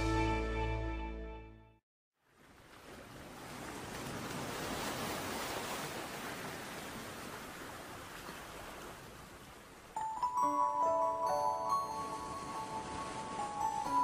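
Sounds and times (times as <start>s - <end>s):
sea surf washing on shore: 2.4s - 14.0s.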